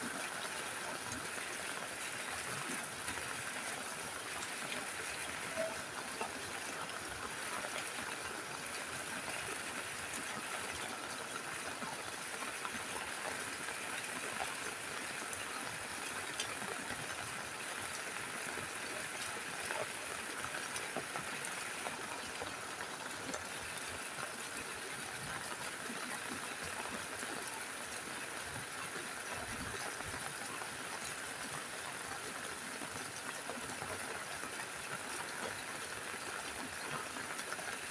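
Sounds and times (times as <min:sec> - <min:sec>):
rain on a roof: 0:00.0 - 0:37.9.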